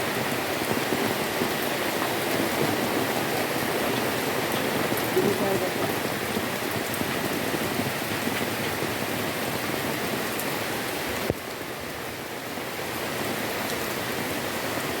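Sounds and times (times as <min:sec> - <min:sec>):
heavy rain pattering: 0:00.0 - 0:15.0.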